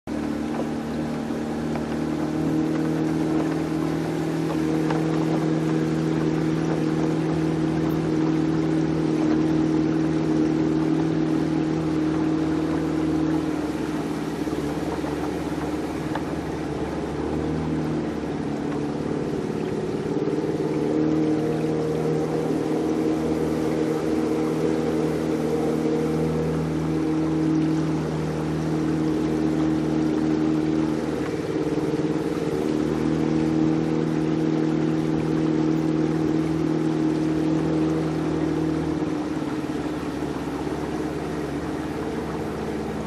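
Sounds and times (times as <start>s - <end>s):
outboard engine running: 0.0s - 43.0s
water wash: 0.0s - 43.0s.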